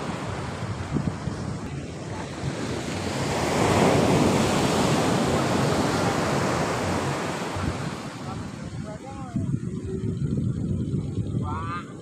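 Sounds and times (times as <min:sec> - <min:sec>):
sea surf washing onto beach: 0:00.0 - 0:09.7
wind on microphone: 0:00.0 - 0:12.0.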